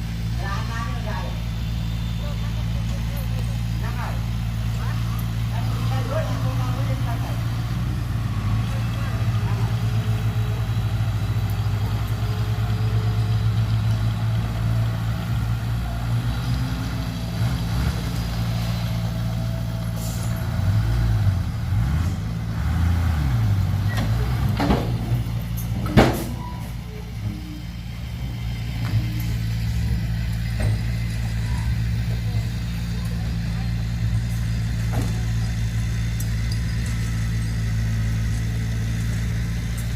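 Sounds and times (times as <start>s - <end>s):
heavy diesel engine revving: 0.0s - 39.9s.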